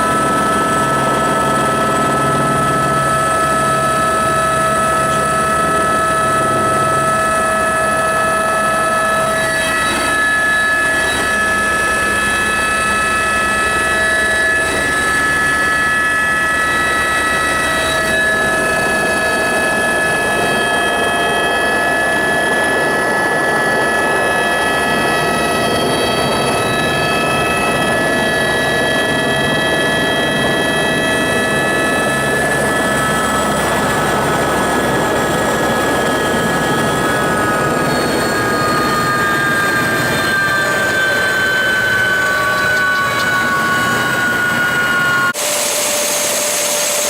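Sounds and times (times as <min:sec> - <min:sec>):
helicopter engine and rotor: 0:00.0 - 0:47.0
high whining tones: 0:00.0 - 0:47.0.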